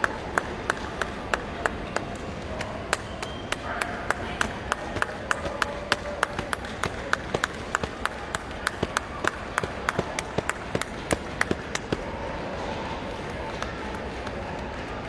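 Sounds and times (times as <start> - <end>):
spectators clapping: 0.0 - 15.0.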